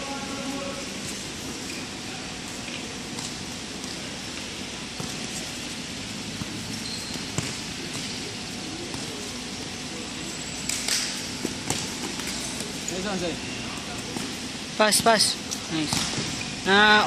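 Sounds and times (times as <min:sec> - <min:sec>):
players' feet and hall noise: 0:00.0 - 0:17.0.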